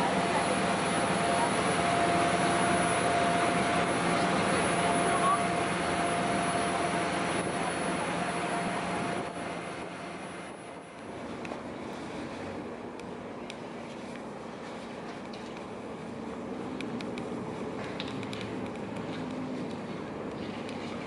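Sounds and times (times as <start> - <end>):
boat engine humming and whining: 0.0 - 21.0
rushing water and air: 0.0 - 21.0.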